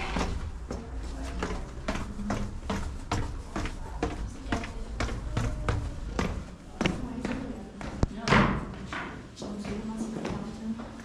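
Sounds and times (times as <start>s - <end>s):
footsteps on brick floor: 0.0s - 11.0s.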